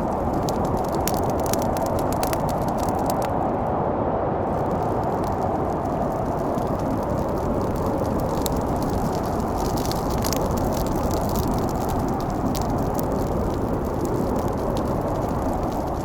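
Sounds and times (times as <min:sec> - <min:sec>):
wood fire crackling: 0:00.0 - 0:03.8, 0:04.5 - 0:16.0
blizzard wind blowing: 0:00.0 - 0:16.0.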